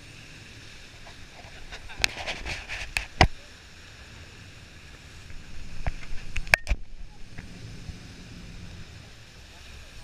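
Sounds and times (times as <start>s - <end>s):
boat engine noise: 0.0s - 10.0s
rushing water: 0.0s - 10.0s.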